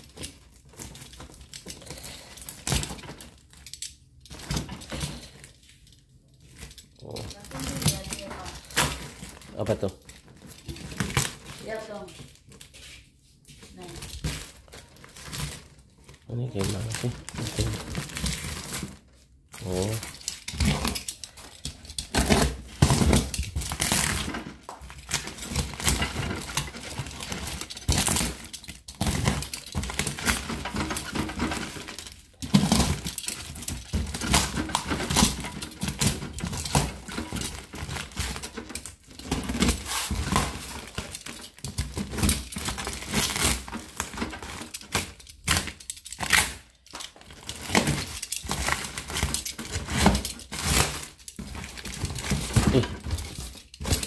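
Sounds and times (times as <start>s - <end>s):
cardboard and tape tearing: 6.4s - 54.0s.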